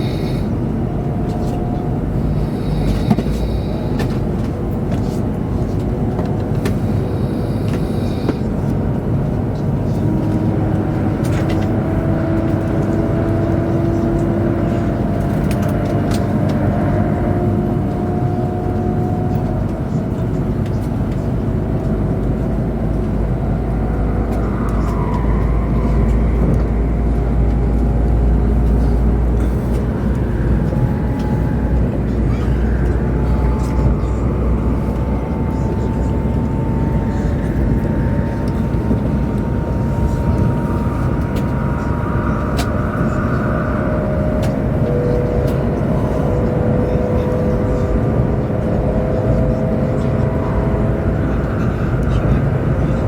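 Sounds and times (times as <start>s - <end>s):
faint whine: 0.0s - 53.0s
train running noise: 0.0s - 53.0s.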